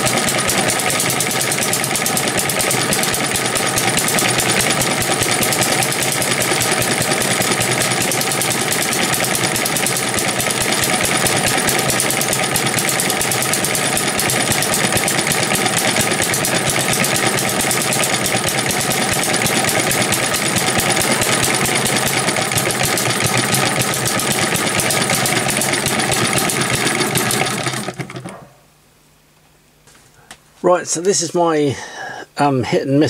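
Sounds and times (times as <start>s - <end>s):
gas engine clattering: 0.0s - 28.4s.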